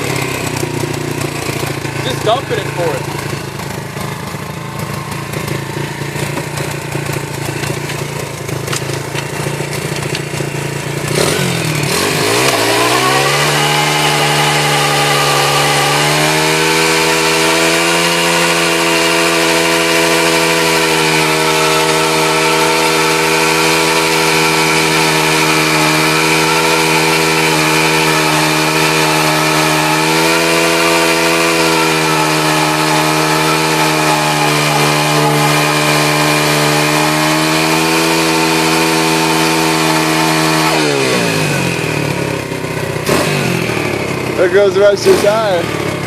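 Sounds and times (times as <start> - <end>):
motorbike engine revving high: 0.0 - 46.0
tire spinning against ground: 0.0 - 46.0.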